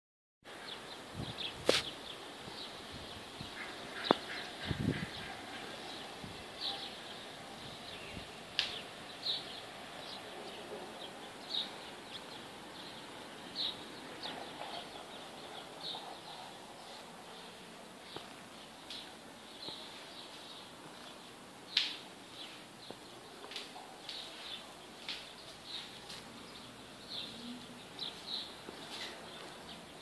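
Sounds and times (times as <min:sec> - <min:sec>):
small birds chirping: 0:00.6 - 0:30.0.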